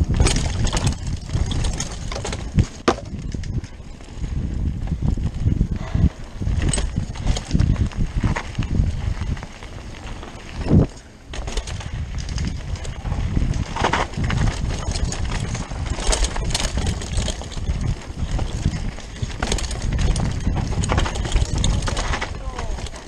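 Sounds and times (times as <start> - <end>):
bike rattling over bumps: 0.0 - 23.0
tyres rumbling on dirt trail: 0.0 - 23.0
wind on microphone: 0.0 - 23.0.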